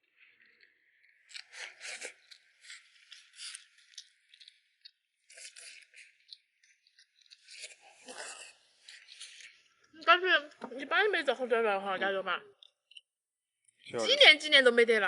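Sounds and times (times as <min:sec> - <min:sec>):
food being chewed and crunched: 0:00.0 - 0:10.6, 0:12.5 - 0:14.0.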